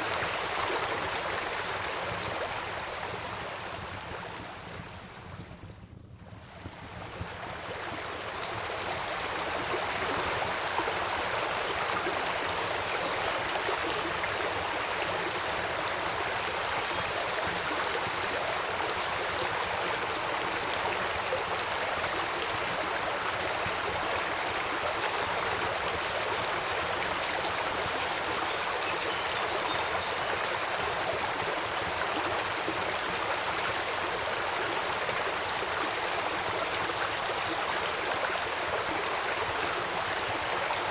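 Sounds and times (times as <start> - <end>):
river flowing: 0.0 - 4.8, 7.0 - 40.9.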